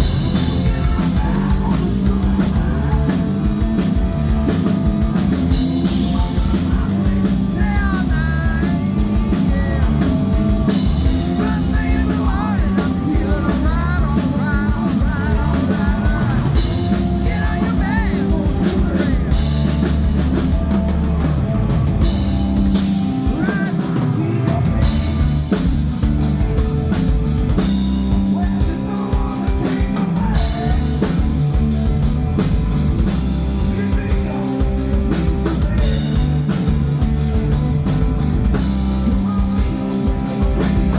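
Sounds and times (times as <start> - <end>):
bass guitar: 0.0 - 40.9
drum kit: 0.0 - 40.9
electric guitar: 0.0 - 40.9.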